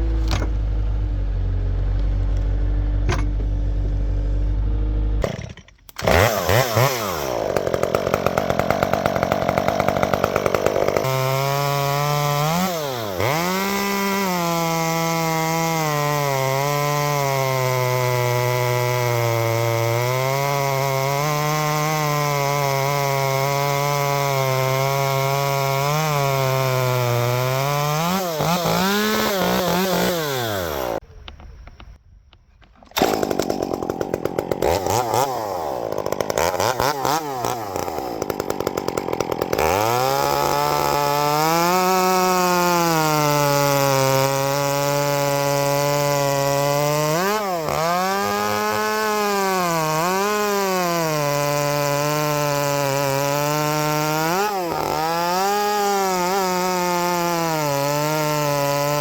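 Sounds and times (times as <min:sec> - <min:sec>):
chainsaw revving: 0:00.0 - 0:31.0, 0:32.9 - 0:59.0.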